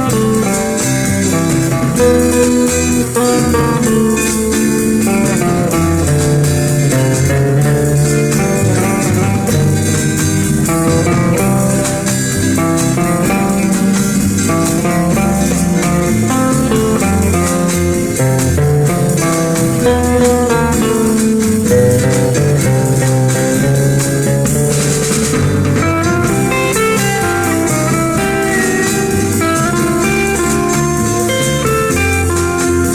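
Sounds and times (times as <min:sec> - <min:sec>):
rhythm and blues instrumental: 0:00.0 - 0:32.9.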